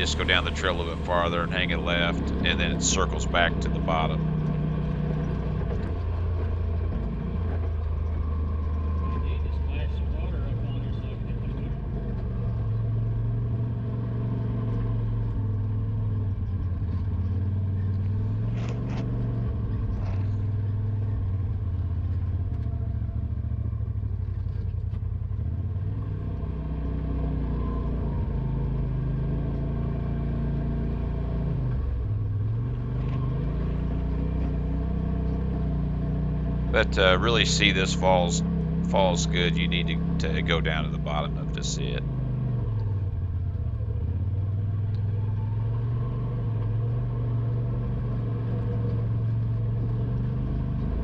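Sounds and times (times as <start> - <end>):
off-road vehicle engine running: 0.0 - 51.0.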